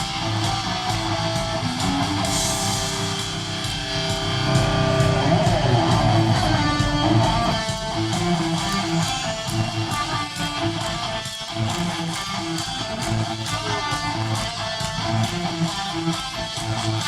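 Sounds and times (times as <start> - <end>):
punk band playing live: 0.0 - 17.0.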